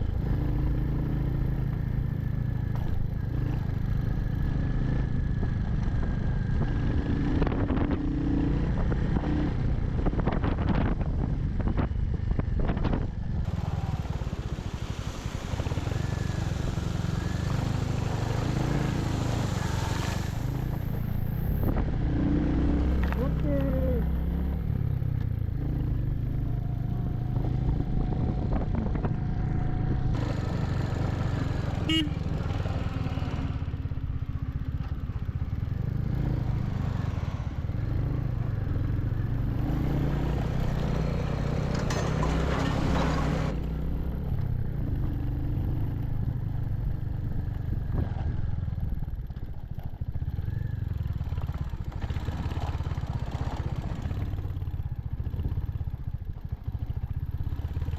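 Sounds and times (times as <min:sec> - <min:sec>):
clatter from rough road: 0:00.0 - 0:57.9
motorcycle engine running: 0:00.0 - 0:57.9.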